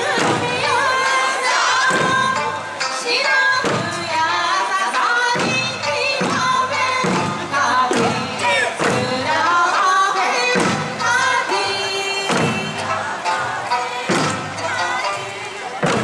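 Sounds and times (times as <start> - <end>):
strong drum beat: 0.0 - 4.7, 5.3 - 9.9, 10.5 - 16.0
person singing folk song: 0.0 - 16.0.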